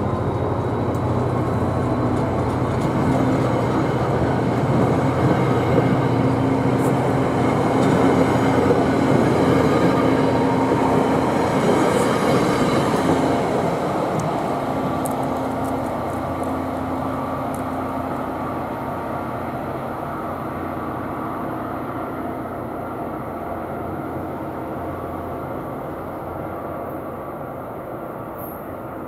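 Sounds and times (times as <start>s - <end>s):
train engine and wheels rumbling: 0.0s - 29.0s.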